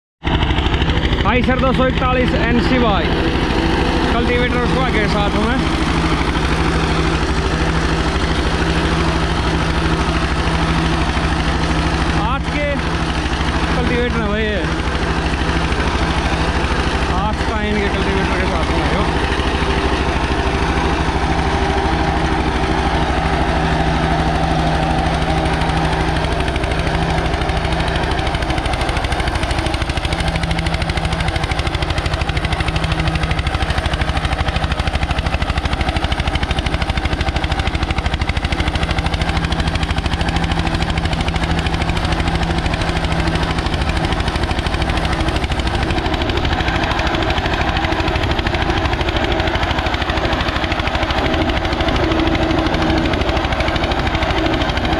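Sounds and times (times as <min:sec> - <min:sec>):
tractor diesel engine running: 0:00.2 - 0:54.9.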